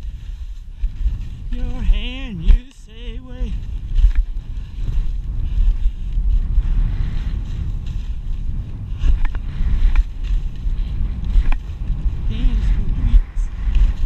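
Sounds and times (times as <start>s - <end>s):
skis scraping through snow: 0.0s - 14.0s
wind buffeting microphone: 0.0s - 14.0s.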